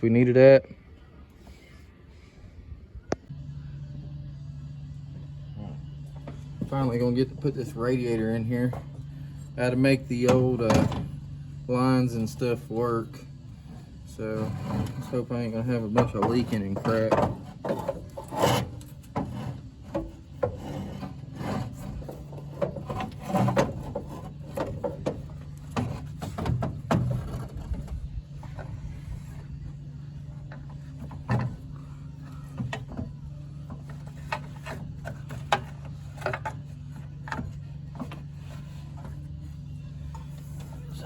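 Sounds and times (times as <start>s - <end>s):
steady low hum: 0.0s - 41.0s
radiator knocks and scraping: 6.1s - 41.0s.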